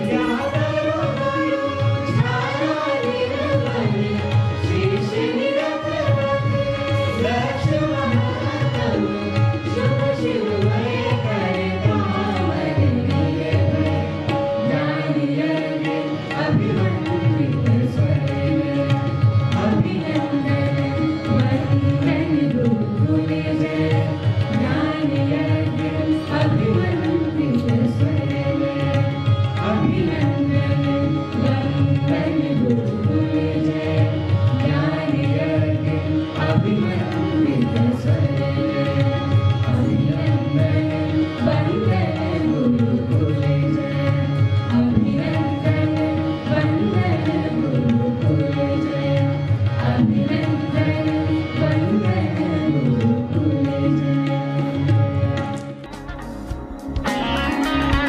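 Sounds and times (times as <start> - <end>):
group of singers: 0.0 - 58.0
harmonium: 0.0 - 58.0
tabla: 0.0 - 58.0.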